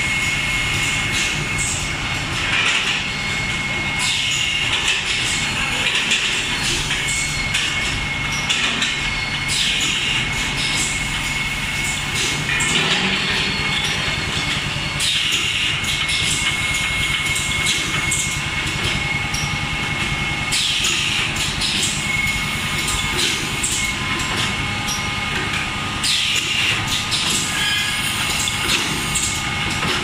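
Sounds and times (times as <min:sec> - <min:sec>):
blow moulding machine running: 0:00.0 - 0:30.0
mechanical clicking and clatter: 0:00.1 - 0:30.0.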